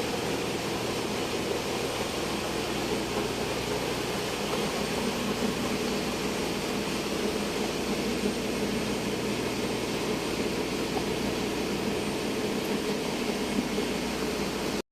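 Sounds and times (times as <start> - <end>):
engine room machinery roar: 0.0 - 14.8.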